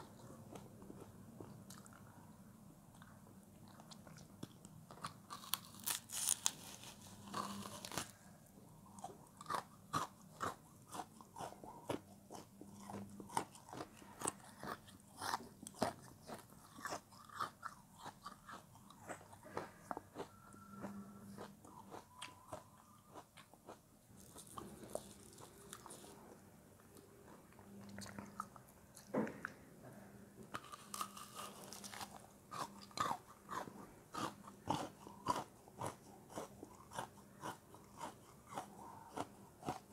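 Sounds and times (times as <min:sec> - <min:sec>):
crunchy chewing: 0:00.0 - 0:02.3, 0:02.9 - 0:29.6, 0:30.5 - 0:39.9.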